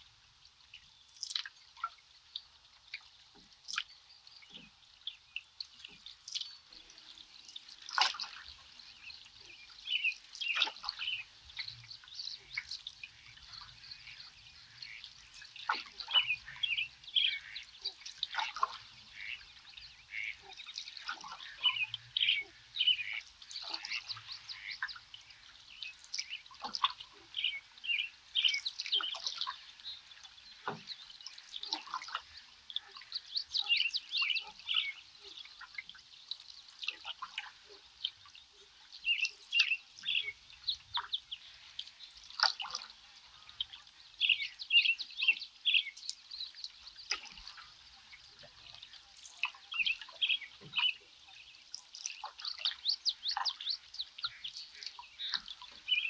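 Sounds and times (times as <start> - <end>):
water dripping from paddle: 0.0 - 56.0
small birds chirping: 0.7 - 56.0.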